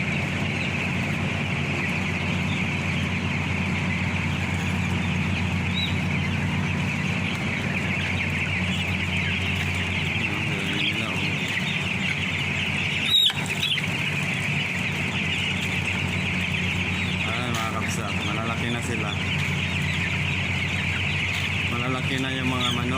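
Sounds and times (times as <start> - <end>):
chickens peeping and clucking: 0.0 - 22.9
low machine hum: 0.0 - 22.9.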